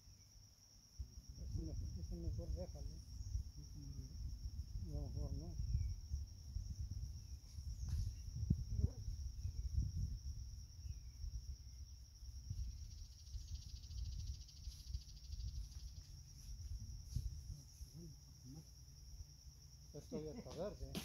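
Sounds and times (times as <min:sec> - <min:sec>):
pulsing insect buzz: 0:00.0 - 0:20.2
insects chirring: 0:00.0 - 0:21.0
low rumble on microphone: 0:01.0 - 0:19.4.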